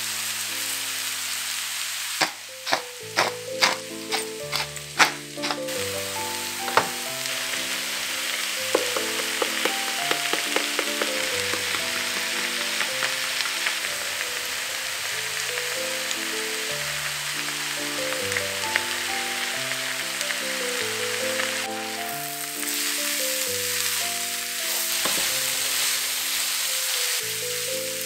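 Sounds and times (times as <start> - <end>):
vegetables sizzling in frying pan: 0.0 - 28.0
soft background music: 2.5 - 28.0.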